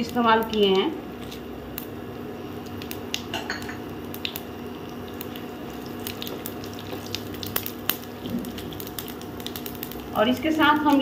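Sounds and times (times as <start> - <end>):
small pops and crackles: 0.0 - 1.9, 2.6 - 3.4, 4.1 - 11.0
spices sizzling in hot oil: 0.0 - 11.0.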